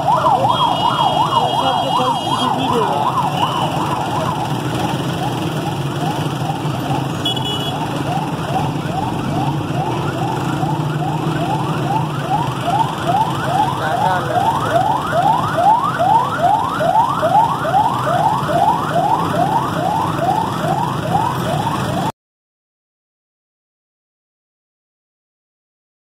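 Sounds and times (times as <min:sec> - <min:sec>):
low traffic rumble: 0:00.0 - 0:22.1
siren yelping: 0:00.0 - 0:22.1.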